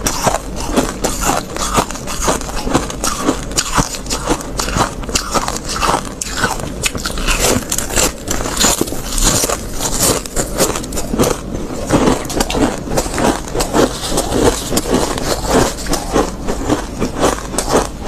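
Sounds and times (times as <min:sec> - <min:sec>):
mouth crunching frost: 0:00.0 - 0:18.0.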